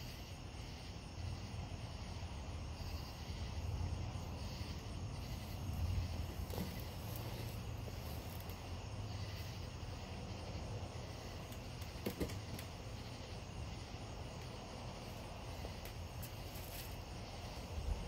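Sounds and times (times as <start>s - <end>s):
insects chirping: 0.0s - 18.0s
low rumble and hiss: 0.0s - 18.0s.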